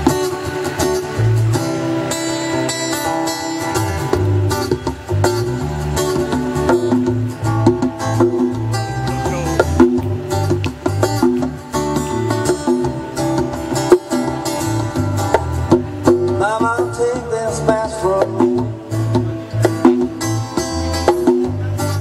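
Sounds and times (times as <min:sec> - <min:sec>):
djembe drumming: 0:00.0 - 0:22.0
strummed acoustic guitar: 0:00.0 - 0:22.0.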